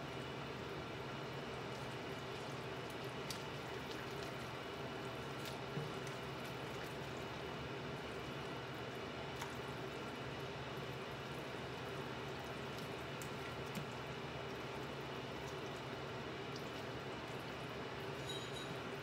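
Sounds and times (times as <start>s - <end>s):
wet squelching of pasta: 1.3s - 18.2s.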